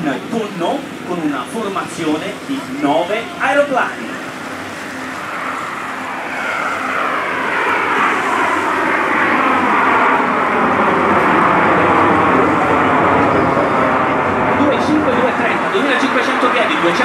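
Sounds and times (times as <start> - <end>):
jets flying over: 0.0 - 17.0
whining tones gliding downward: 0.2 - 17.0.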